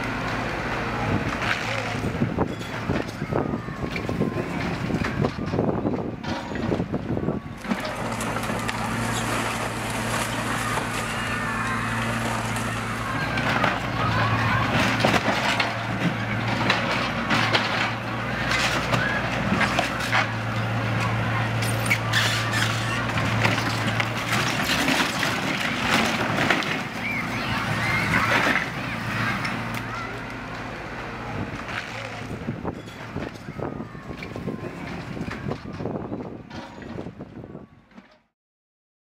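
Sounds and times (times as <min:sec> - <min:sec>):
excavator diesel engine running: 0:00.0 - 0:38.2.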